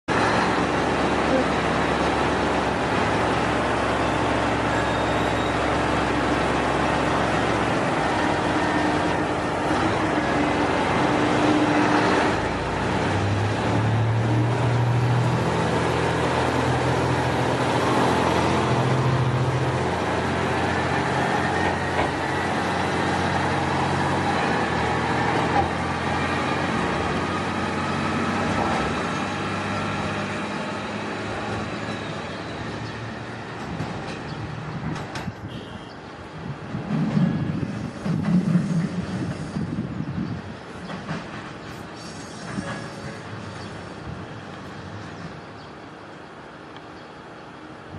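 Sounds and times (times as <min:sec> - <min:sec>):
diesel train engine: 0:00.1 - 0:47.9.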